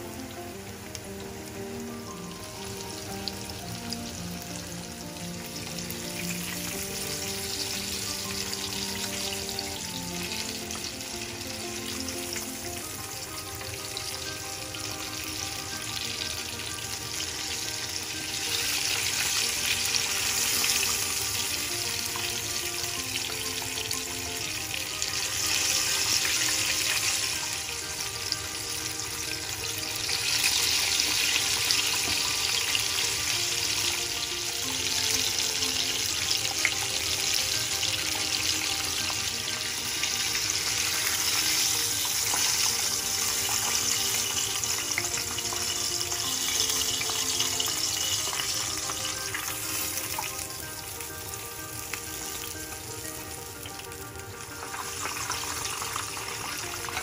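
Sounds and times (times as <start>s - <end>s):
chicken frying in hot oil: 0.0s - 57.0s
soft background music: 0.0s - 57.0s.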